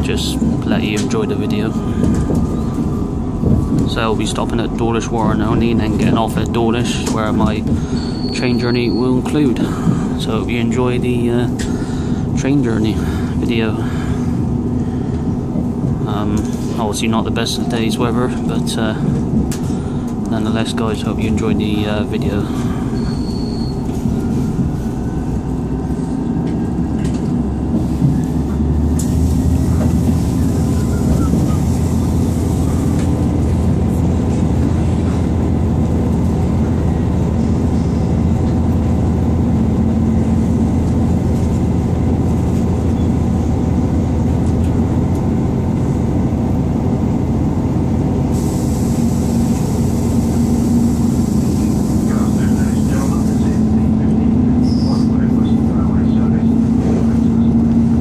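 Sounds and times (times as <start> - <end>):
diesel engine drone: 0.0 - 58.0
train wheels rumbling on rails: 0.0 - 58.0.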